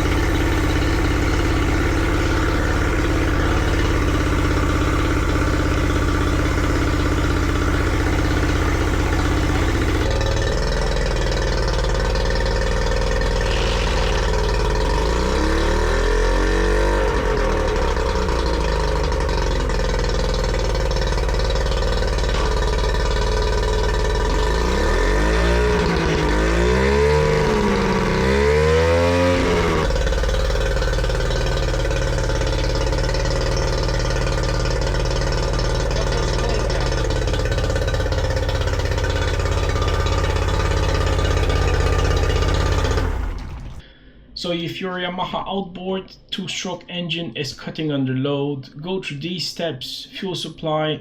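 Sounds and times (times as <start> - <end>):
outboard engine running: 0.0 - 43.8.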